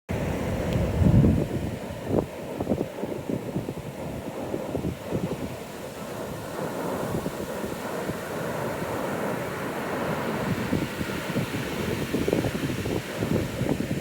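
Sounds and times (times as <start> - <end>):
ocean surf breaking: 0.1 - 14.0
wind buffeting microphone: 0.1 - 14.0.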